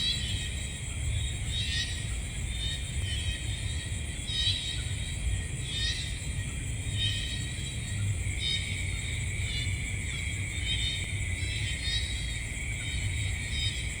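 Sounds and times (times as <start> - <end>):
insect chirping call: 0.0 - 14.0
insects trilling: 0.0 - 14.0.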